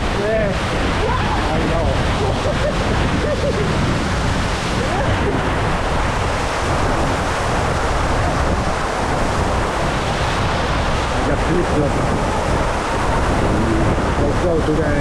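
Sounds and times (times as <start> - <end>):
waterfall pouring into pool: 0.0 - 3.6, 4.4 - 15.0.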